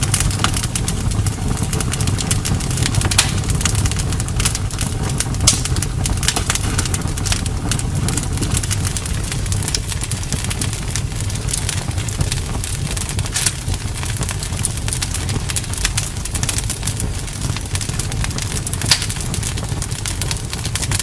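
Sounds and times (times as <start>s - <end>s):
bonfire flames rumbling: 0.0s - 21.0s
burning wood crackling and popping: 0.0s - 21.0s.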